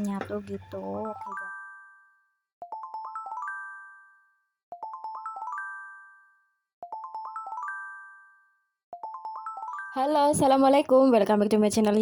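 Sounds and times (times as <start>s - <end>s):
bell-like music jingle: 0.4s - 10.8s.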